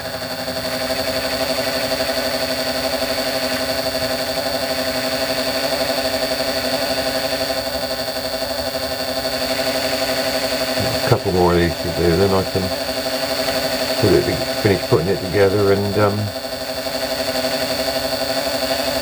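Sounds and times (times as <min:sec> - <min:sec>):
lathe motor hum and whine: 0:00.0 - 0:14.6, 0:15.7 - 0:19.0.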